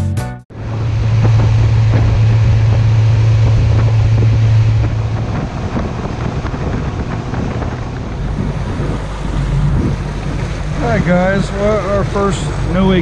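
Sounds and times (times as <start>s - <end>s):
outboard motor humming: 0.5s - 13.0s
water rushing in wake: 0.5s - 13.0s
wind buffeting microphone: 0.5s - 13.0s.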